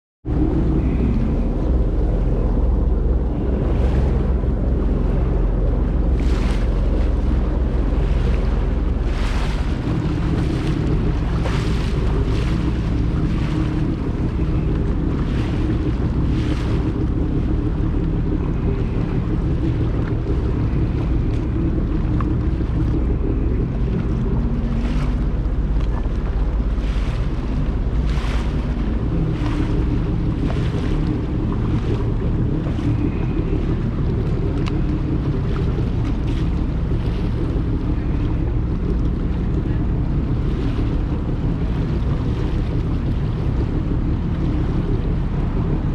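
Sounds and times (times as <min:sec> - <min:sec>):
steady low rumble: 0:00.2 - 0:45.9
water splashing against boat hull: 0:00.2 - 0:45.9
wind on microphone: 0:00.2 - 0:45.9.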